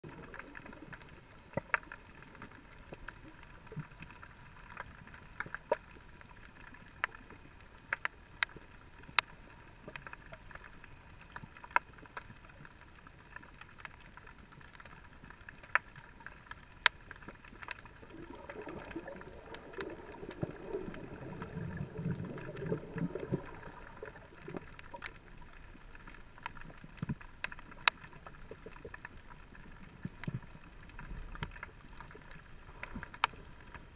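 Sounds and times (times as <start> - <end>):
rough low underwater rumble: 0.0 - 33.9
underwater hiss and hum: 0.0 - 33.9
sharp underwater clicks: 0.1 - 33.9.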